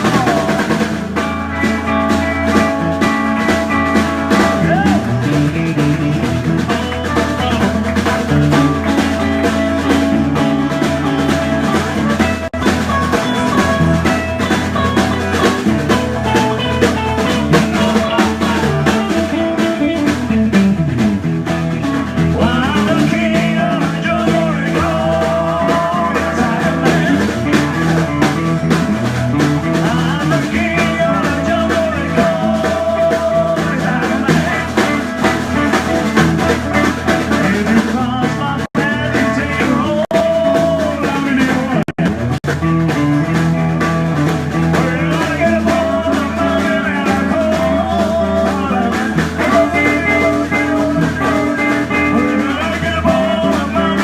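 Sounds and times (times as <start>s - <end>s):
live band playing rock: 0.0s - 54.0s.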